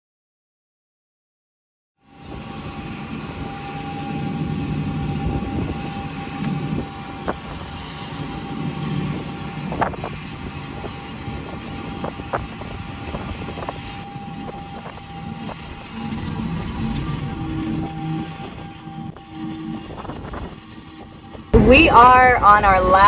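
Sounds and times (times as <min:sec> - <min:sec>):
farm machinery drone: 0:02.0 - 0:23.0
thin whine: 0:02.0 - 0:23.0
low rumble: 0:02.1 - 0:23.0.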